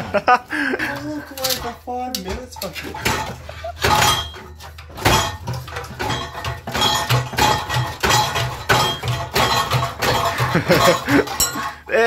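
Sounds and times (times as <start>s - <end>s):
metal exhaust pipe clanking: 0.9s - 11.9s.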